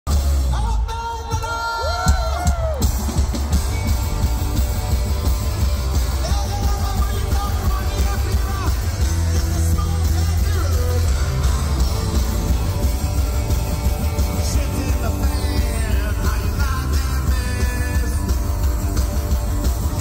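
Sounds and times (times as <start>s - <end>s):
live rock band playing: 0.1s - 20.0s.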